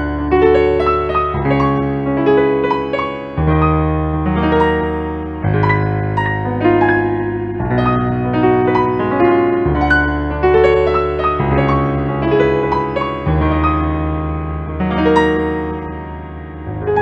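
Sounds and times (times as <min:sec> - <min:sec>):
piano-like keyboard music: 0:00.0 - 0:17.0.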